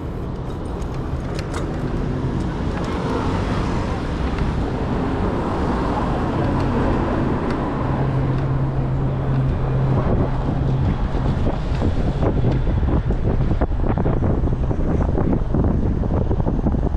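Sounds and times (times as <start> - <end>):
road traffic: 0.0 - 16.9
vehicle engine hum: 0.0 - 16.9
wind buffeting microphone: 0.0 - 16.9.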